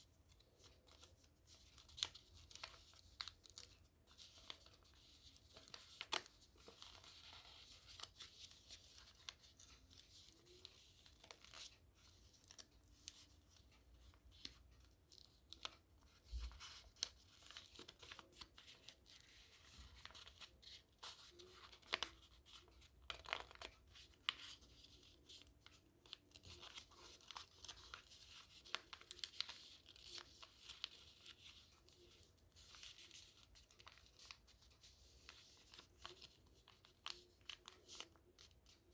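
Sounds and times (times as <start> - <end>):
paper being folded and creased: 0.3 - 38.9.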